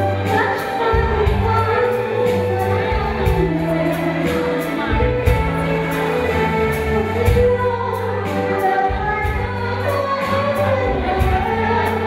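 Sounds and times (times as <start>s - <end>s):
instrumental accompaniment: 0.0s - 12.0s
woman singing into microphone: 0.0s - 12.0s.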